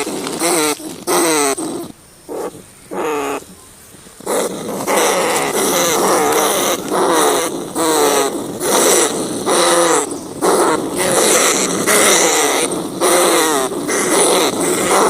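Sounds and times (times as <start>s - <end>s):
rats squealing: 0.0s - 3.5s, 4.2s - 15.0s.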